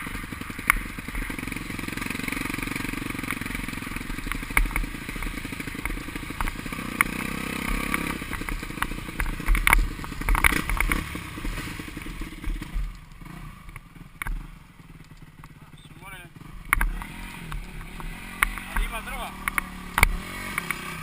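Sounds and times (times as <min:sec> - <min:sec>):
motocross bike engine running: 0:00.0 - 0:21.0.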